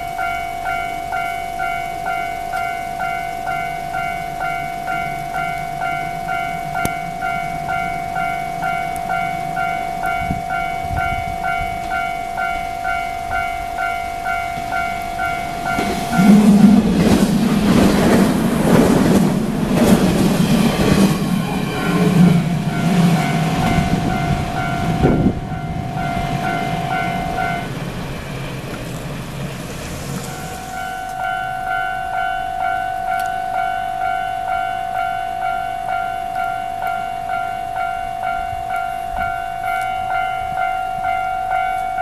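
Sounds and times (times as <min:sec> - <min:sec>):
level crossing warning bell: 0:00.0 - 0:42.0
train running over rails: 0:00.0 - 0:42.0.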